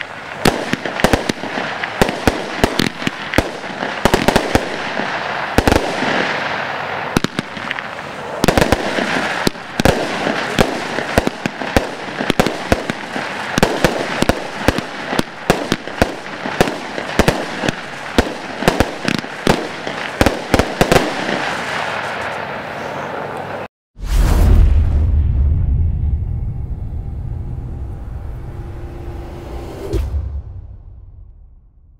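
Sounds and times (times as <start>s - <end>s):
fireworks bangs: 0.0s - 26.4s.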